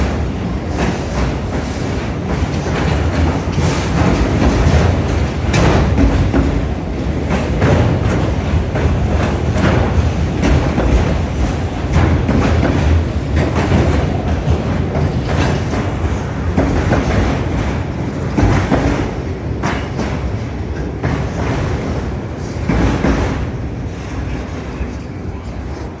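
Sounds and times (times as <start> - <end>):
train rumble: 0.0 - 26.0
train wheels clacking on rails: 0.0 - 26.0.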